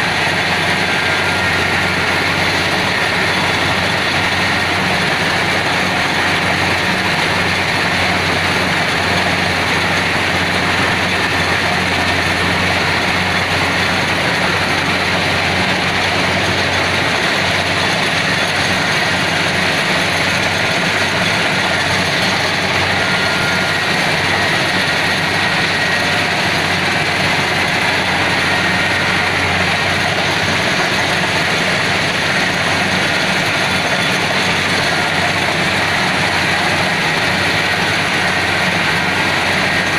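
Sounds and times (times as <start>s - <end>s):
combine harvester engine hum: 0.0s - 39.9s
dense mechanical rush: 0.0s - 39.9s.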